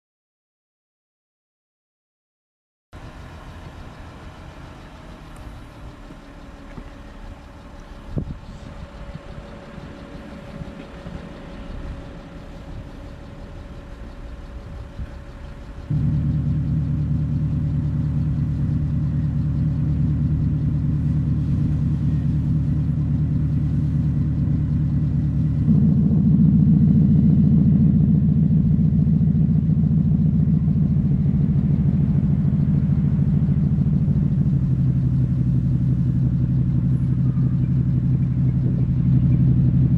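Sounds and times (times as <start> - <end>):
car engine idling: 3.0 - 39.9
deep synthetic engine note: 3.0 - 39.9.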